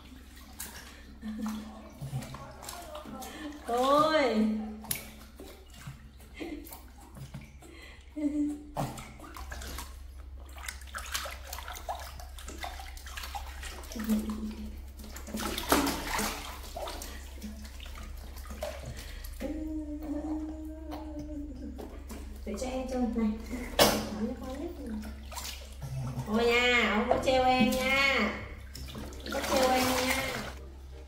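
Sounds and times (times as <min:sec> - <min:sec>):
bath water splashing: 0:00.0 - 0:31.0.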